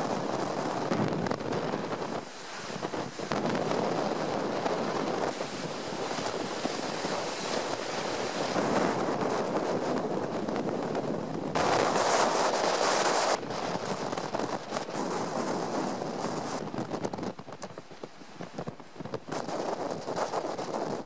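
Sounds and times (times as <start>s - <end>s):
strong wind on microphone: 0.0s - 21.0s
waves breaking on shore: 0.0s - 21.0s.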